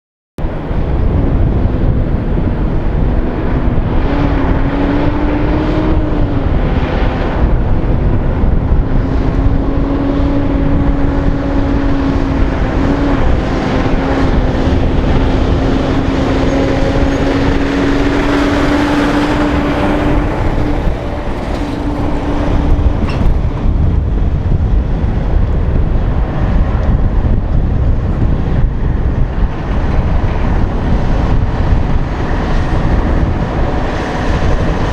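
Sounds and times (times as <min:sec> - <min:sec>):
trucks driving past: 0:00.4 - 0:34.9.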